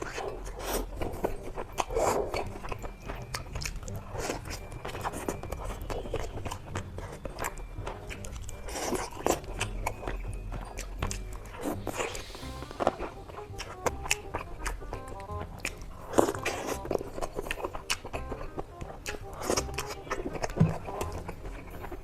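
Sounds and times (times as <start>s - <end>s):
crunchy bites and chewing: 0.0s - 22.0s
quiet background music: 0.0s - 22.0s.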